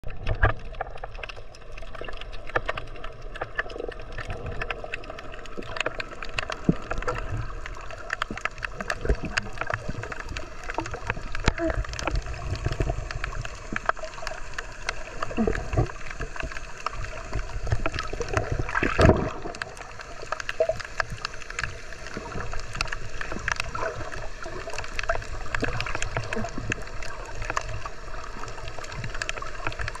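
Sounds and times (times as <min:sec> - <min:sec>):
rush of water: 0:00.0 - 0:30.0
underwater water rumble: 0:00.0 - 0:30.0
sharp underwater clicks: 0:00.1 - 0:30.0.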